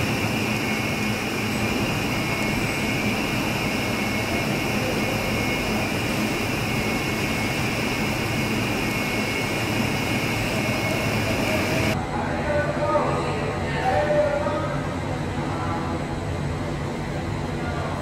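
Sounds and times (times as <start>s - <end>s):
assembly plant machinery noise: 0.0s - 18.0s.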